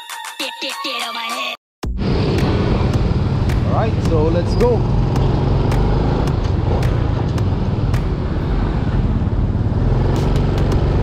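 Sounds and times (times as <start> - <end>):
motorcycle engine running: 1.9 - 11.0
road and wind noise: 1.9 - 11.0.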